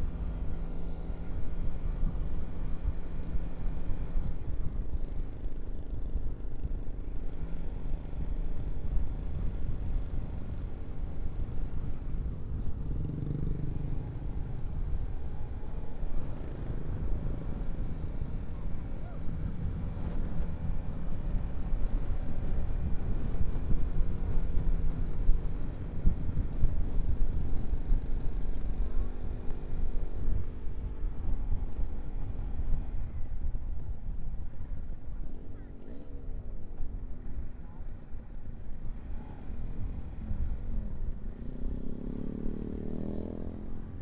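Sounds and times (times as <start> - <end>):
wind rumble on microphone: 0.0 - 44.0.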